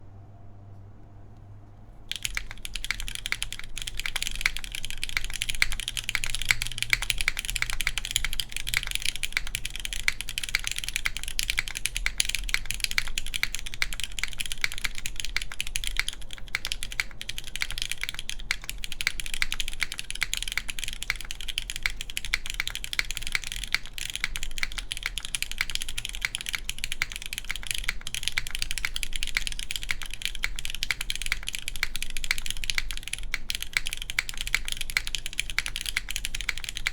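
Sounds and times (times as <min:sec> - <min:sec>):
fast typing on mechanical keyboard: 0:02.1 - 0:36.9.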